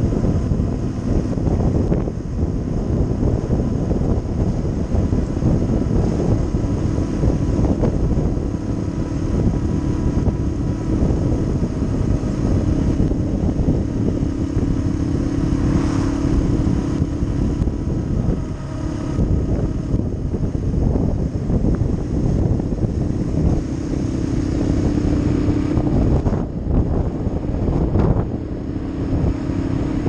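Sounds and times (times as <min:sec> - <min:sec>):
motorcycle engine hum: 0:00.0 - 0:30.0
wind buffeting microphone: 0:00.0 - 0:30.0.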